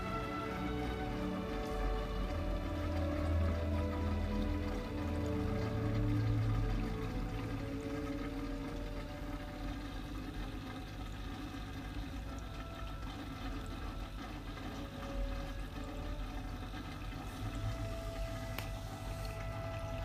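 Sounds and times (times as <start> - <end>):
aquarium pumps humming: 0.0 - 20.0
water rushing and trickling: 0.0 - 20.0.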